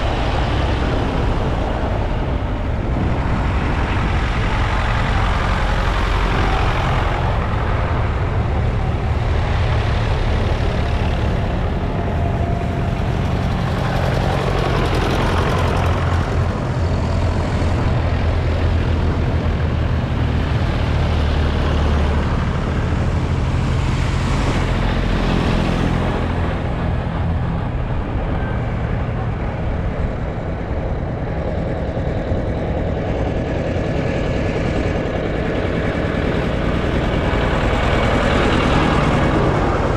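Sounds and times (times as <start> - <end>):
tractor engines passing: 0.0 - 39.9.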